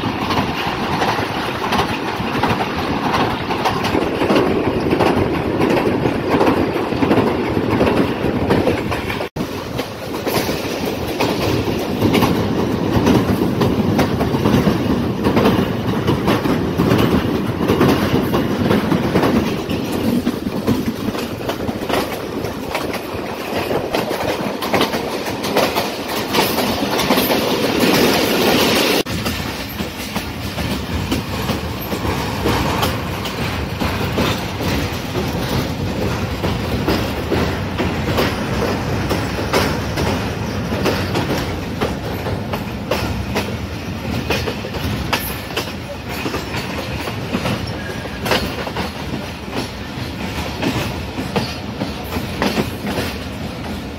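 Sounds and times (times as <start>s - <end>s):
passenger train rumbling: 0.0s - 53.9s.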